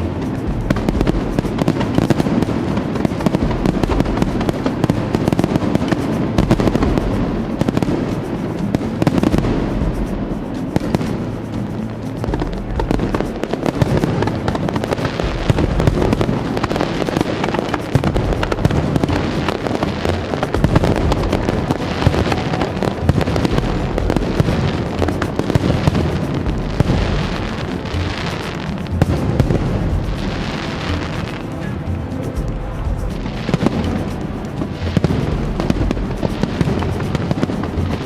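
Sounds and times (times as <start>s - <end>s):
fireworks cracks and pops: 0.0s - 32.5s.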